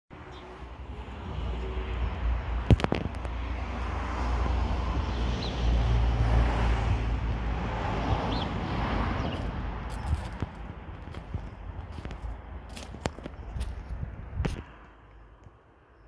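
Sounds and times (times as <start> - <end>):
outdoor background rumble: 0.1 - 16.0.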